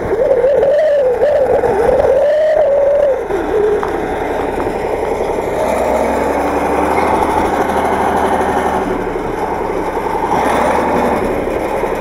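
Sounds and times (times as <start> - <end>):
tractor diesel engine under load: 0.0 - 12.0
wheels churning in mud: 0.0 - 12.0.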